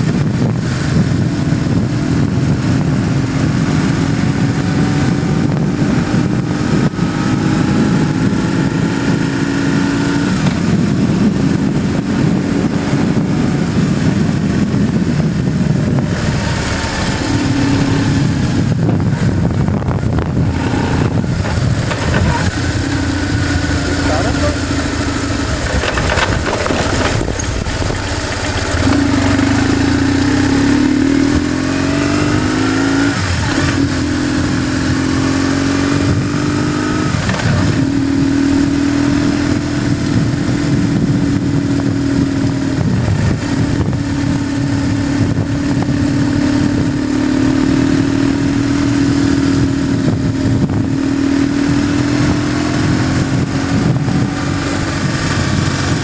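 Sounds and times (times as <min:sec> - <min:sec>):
motorcycle engine running: 0:00.0 - 0:56.0
wind rushing: 0:00.0 - 0:56.0.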